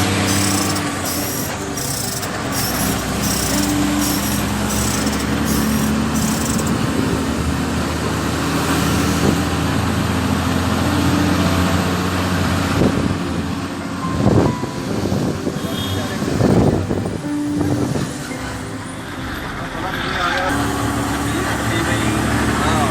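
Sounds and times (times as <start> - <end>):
road noise: 0.0 - 22.9.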